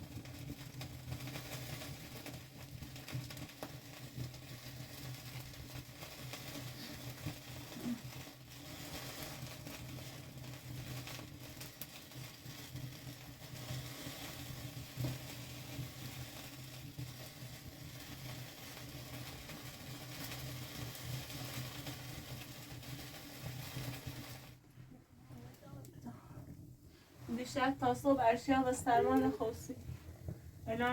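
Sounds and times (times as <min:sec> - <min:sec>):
wood fire hissing and crackling: 0:00.0 - 0:30.9.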